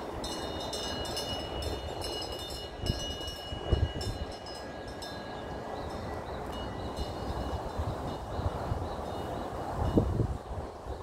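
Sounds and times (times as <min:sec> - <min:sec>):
metal wind chime ringing: 0:00.0 - 0:10.2
rushing outdoor background: 0:00.0 - 0:11.0.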